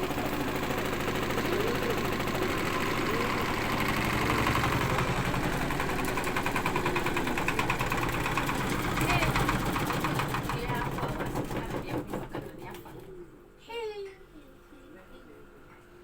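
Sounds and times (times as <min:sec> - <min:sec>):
washing machine motor hum: 0:00.0 - 0:13.2.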